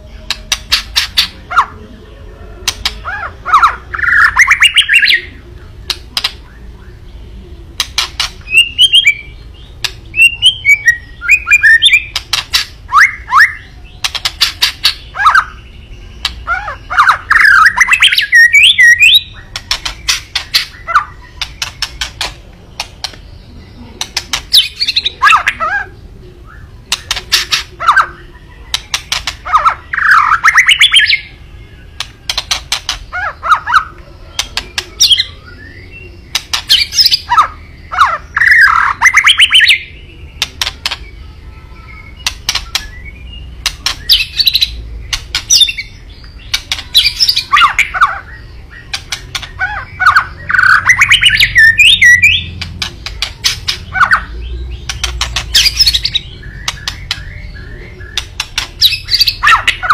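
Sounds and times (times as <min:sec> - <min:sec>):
bird rattling and squawking call: 0:00.3 - 0:01.8, 0:07.8 - 0:15.6, 0:16.2 - 0:23.2, 0:24.0 - 0:26.0, 0:26.9 - 0:31.3, 0:32.0 - 0:35.4, 0:36.2 - 0:39.8, 0:40.4 - 0:41.0, 0:42.1 - 0:59.9.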